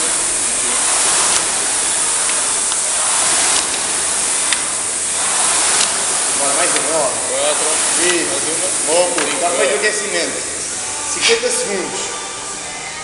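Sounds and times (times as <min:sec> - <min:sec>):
rowing machine fan whooshing: 0:00.0 - 0:13.0.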